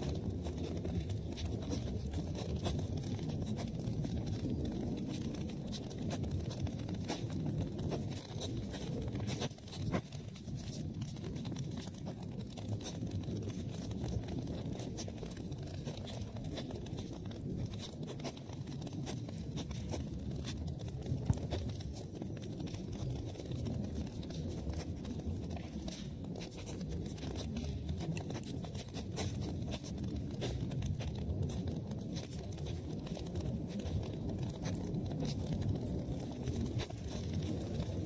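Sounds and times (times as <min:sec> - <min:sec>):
fire crackling and popping: 0:00.0 - 0:38.0
low rumble of flames: 0:00.0 - 0:38.0.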